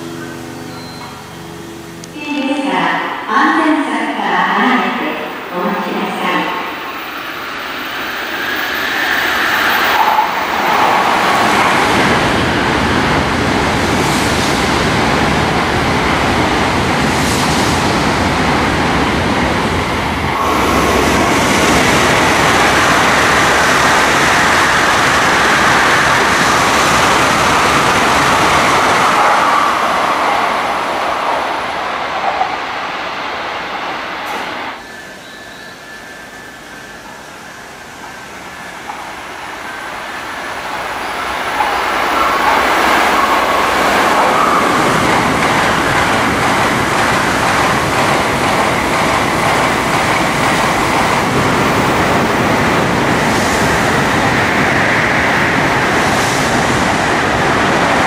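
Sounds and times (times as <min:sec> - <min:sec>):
train rushing past: 0:00.0 - 0:58.0.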